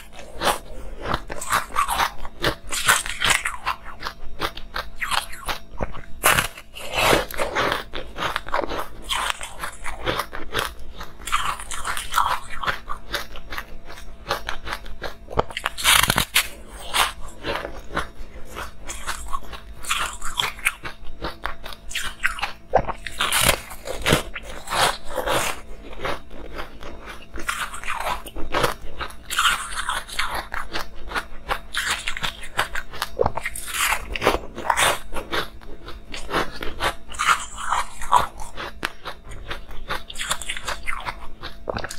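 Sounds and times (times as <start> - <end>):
person chewing crunchy ice: 0.0 - 41.9.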